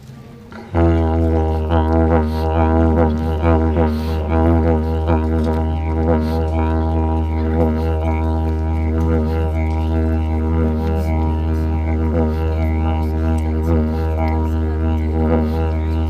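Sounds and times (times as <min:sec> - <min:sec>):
didgeridoo drone: 0:00.5 - 0:16.0.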